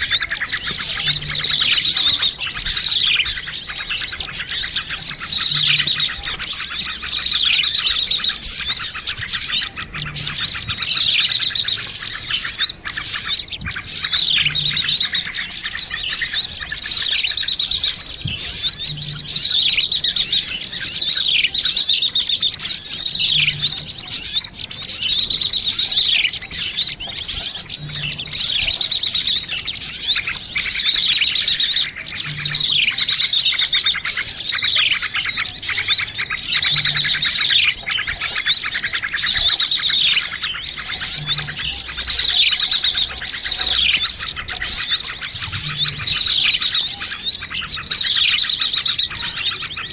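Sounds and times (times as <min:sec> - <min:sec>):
small birds chirping and trilling: 0:00.0 - 0:49.9.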